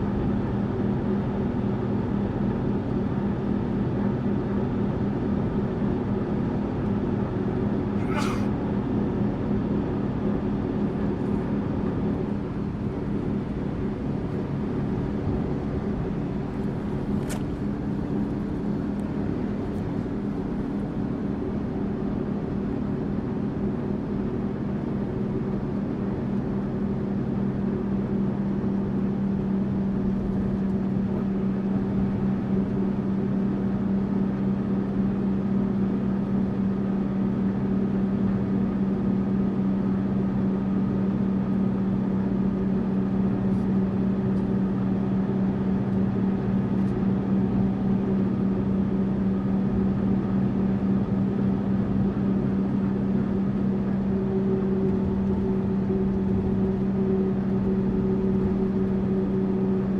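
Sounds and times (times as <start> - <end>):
bus engine and road hum: 0.0 - 59.9.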